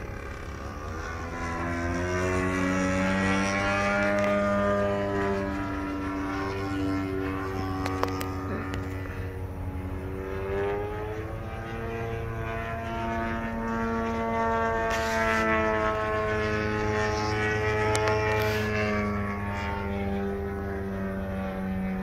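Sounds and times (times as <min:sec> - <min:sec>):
model airplane motor drone: 0:00.0 - 0:22.0.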